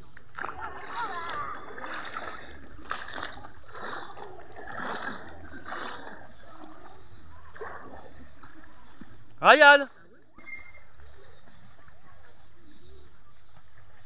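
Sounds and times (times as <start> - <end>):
swimmer splashing: 0.0 - 12.2.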